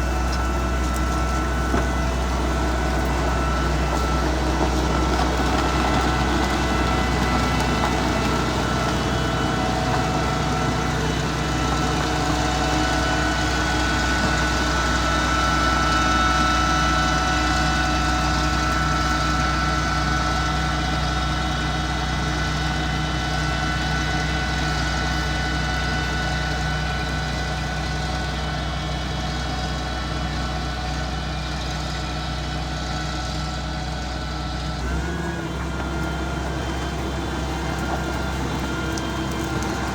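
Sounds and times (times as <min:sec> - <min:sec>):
grader diesel engine running: 0:00.0 - 0:39.9.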